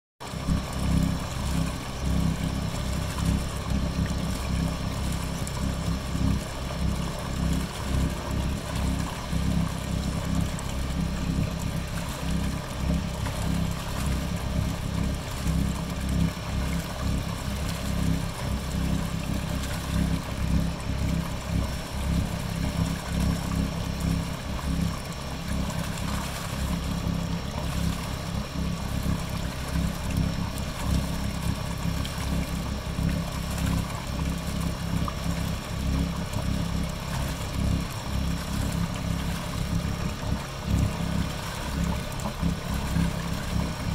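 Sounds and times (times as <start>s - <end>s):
generator engine drone: 0.2s - 43.9s
water splashing: 0.3s - 43.9s.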